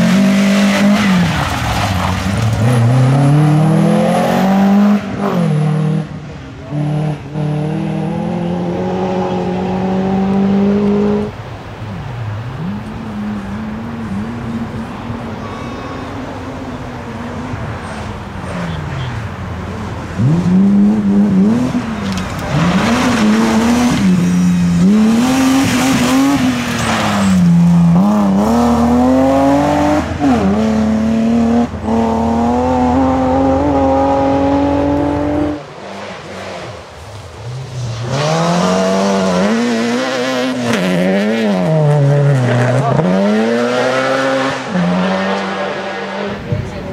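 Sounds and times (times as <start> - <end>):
rally car engine revving: 0.0 - 11.4, 17.8 - 46.9.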